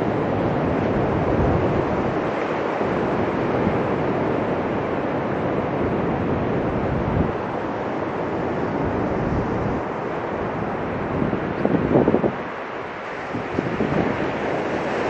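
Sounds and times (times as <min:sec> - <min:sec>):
ocean surf on beach: 0:00.0 - 0:15.0.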